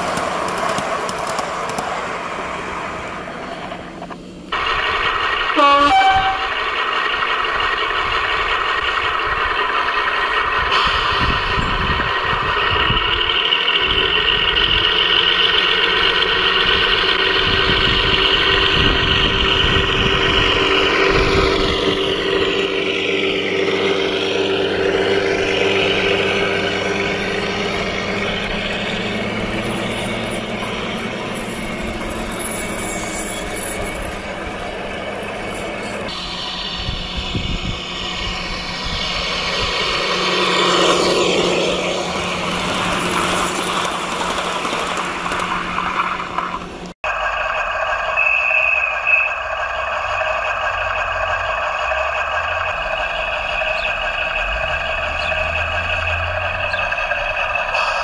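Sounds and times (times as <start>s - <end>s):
model train diesel engine sound: 0.0s - 58.0s
wheels rumbling on track: 0.0s - 58.0s.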